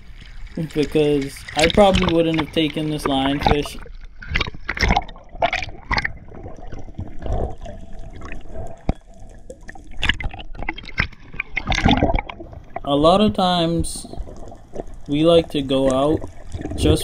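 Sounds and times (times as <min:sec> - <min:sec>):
underwater gurgling and bubbling: 0:00.0 - 0:17.0.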